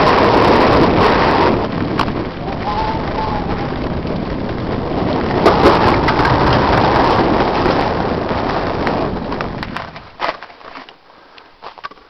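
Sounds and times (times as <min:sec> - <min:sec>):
wind buffeting microphone: 0:00.0 - 0:10.4
bike rattling: 0:00.0 - 0:12.0
tyres rolling over gravel: 0:00.0 - 0:12.0.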